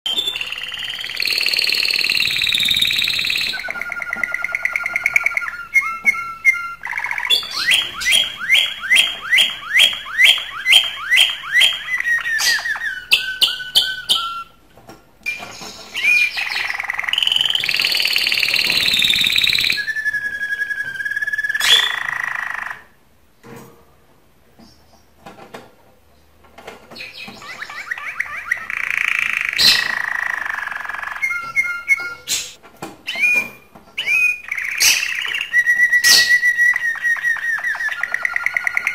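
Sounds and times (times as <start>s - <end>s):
canary singing trills and whistles: 0.1s - 14.6s, 15.3s - 22.9s, 26.9s - 38.9s.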